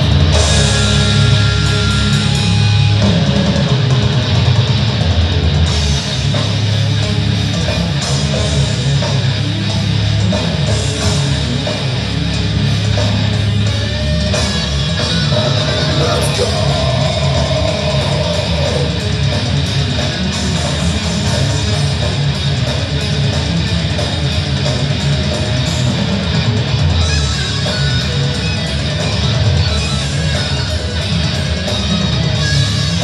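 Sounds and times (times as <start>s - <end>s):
backing drum track: 0.0s - 33.0s
electric guitars: 0.0s - 33.0s.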